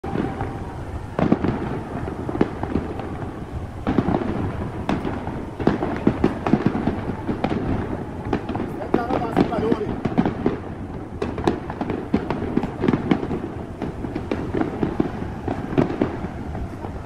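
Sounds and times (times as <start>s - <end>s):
fireworks bangs: 0.0s - 17.0s
fireworks crackle: 0.0s - 17.0s.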